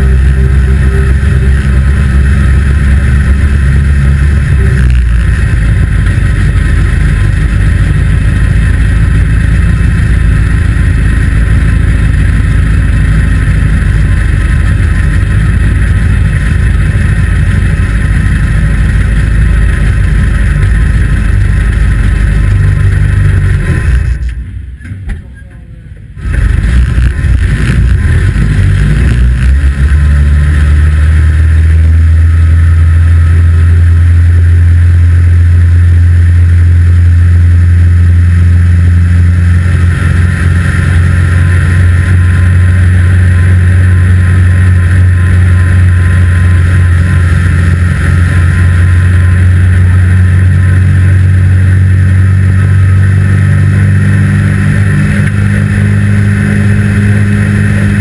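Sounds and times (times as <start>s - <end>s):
race car engine at high revs: 0.0s - 24.7s, 26.0s - 58.0s.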